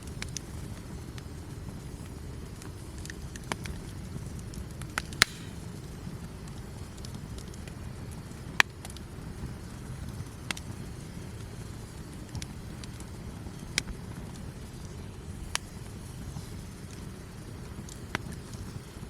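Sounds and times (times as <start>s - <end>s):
low fire rumble: 0.0s - 19.0s
campfire wood crackling: 0.1s - 19.0s.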